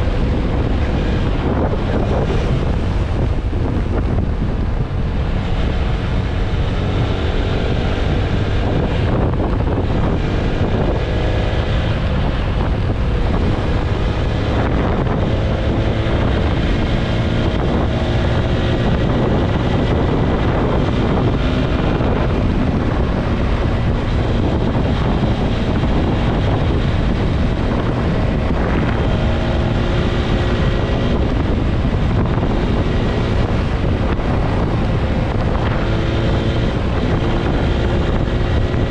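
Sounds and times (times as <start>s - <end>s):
motorcycle engine: 0.0s - 38.9s
wind rushing over microphone: 0.0s - 38.9s.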